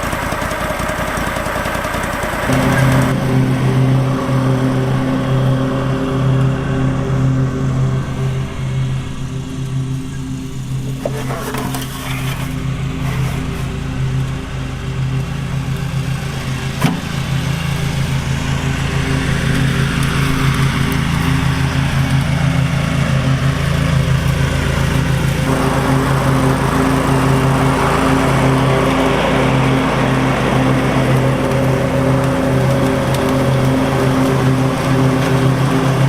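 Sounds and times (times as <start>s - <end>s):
lawn tractor engine running: 0.0s - 36.0s.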